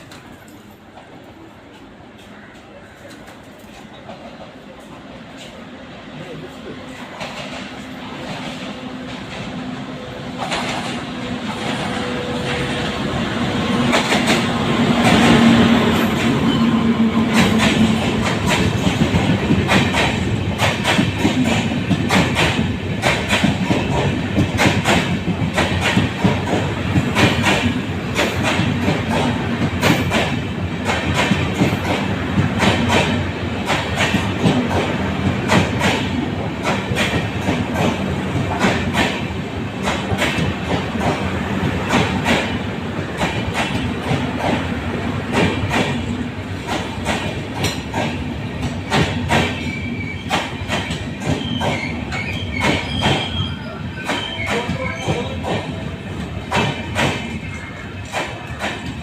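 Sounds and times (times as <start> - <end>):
train wheels clattering on rails: 0.0 - 5.7, 6.7 - 59.0.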